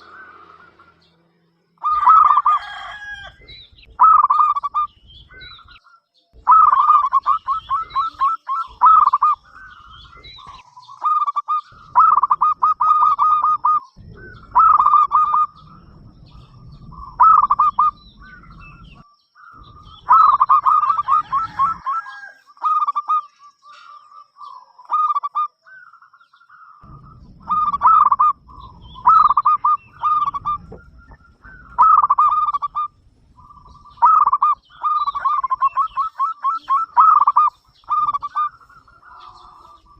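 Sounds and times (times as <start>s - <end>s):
dove cooing: 1.8s - 5.8s, 6.4s - 19.0s, 19.6s - 25.9s, 26.8s - 39.9s.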